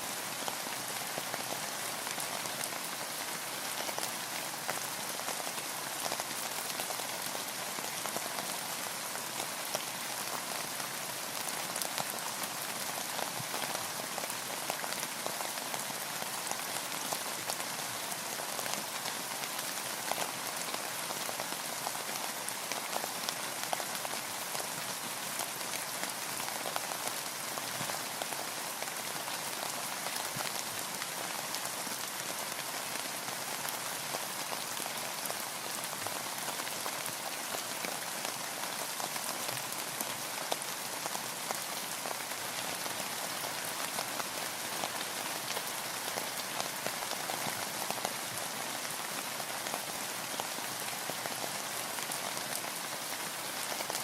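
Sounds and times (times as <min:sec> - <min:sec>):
rain falling on a boat: 0:00.0 - 0:54.0.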